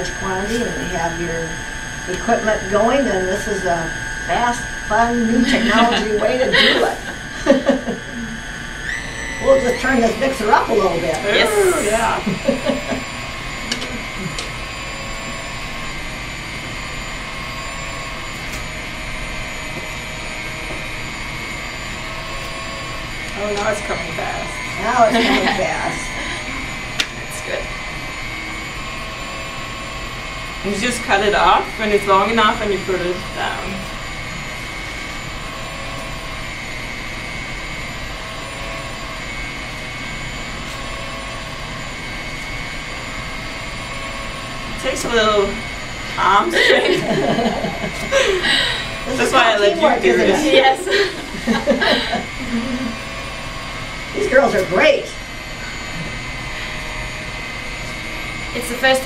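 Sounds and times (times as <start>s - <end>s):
stand mixer motor whine: 0.0s - 59.0s.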